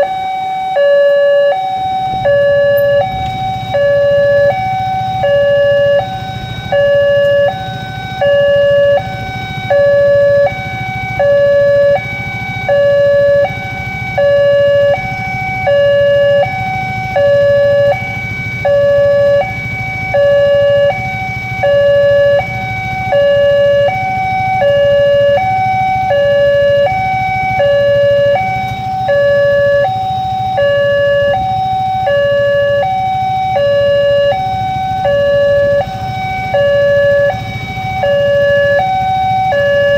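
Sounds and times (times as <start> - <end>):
level crossing two-tone alarm: 0.0 - 39.9
low traffic rumble: 0.0 - 39.9.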